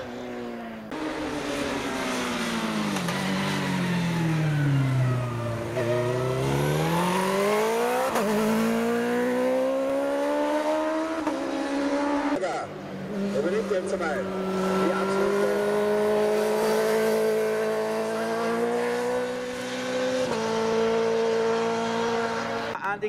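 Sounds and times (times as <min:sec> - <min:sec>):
motorcycle engine revving: 0:00.5 - 0:22.8.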